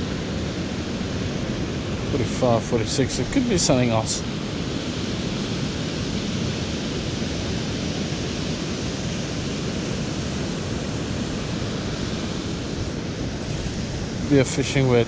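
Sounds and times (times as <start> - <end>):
surf rushing: 0.0 - 15.0
wind: 0.0 - 15.0.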